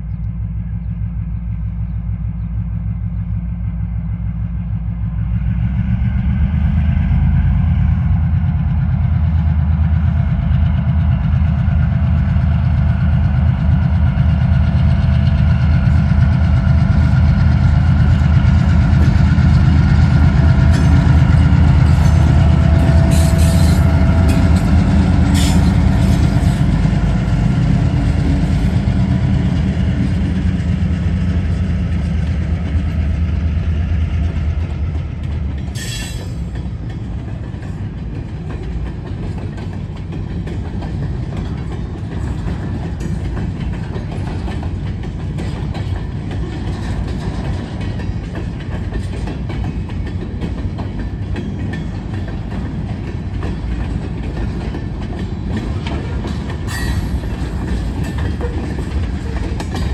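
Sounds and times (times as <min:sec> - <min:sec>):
diesel locomotive engine rumble: 0:00.0 - 0:59.9
train wheels clacking over rails: 0:04.4 - 0:59.9.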